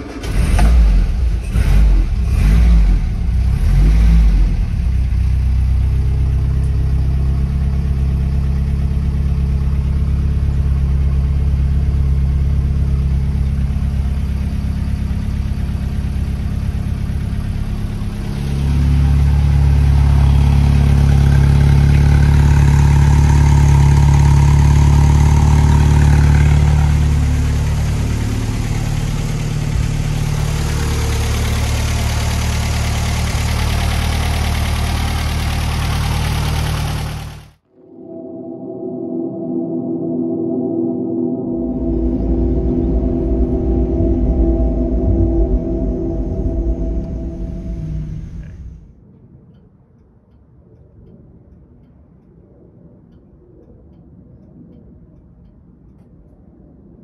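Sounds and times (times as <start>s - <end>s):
car engine starting and idling: 0.0s - 37.6s, 40.6s - 48.9s.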